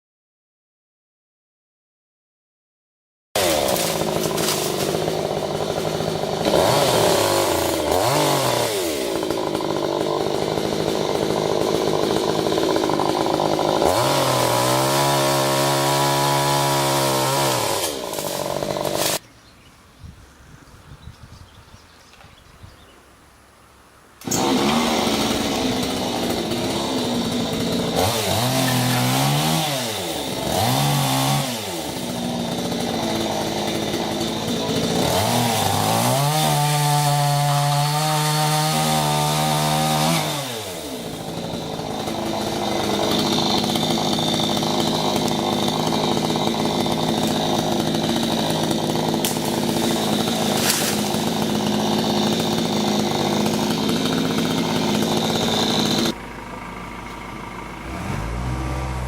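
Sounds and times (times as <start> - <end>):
chainsaw engine revving: 3.4 - 19.2, 24.2 - 59.0.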